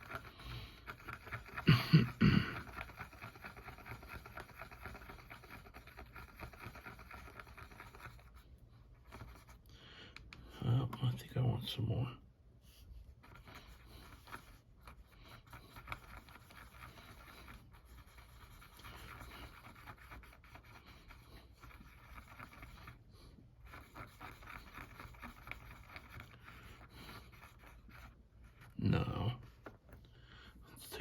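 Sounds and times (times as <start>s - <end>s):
paint scraping while mixed: 0.0s - 9.7s, 12.6s - 29.9s.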